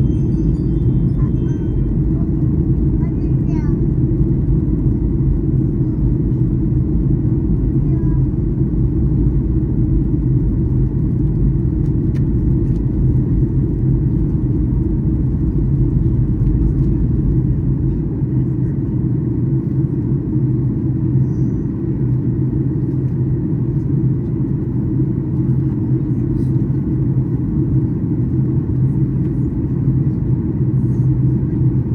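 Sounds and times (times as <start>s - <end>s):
airplane cabin engine rumble: 0.0s - 31.9s.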